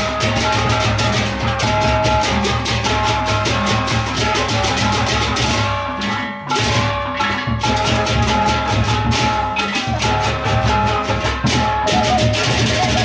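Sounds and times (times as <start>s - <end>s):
deep drums: 0.0s - 13.0s
hand cymbals clashing: 0.0s - 13.0s.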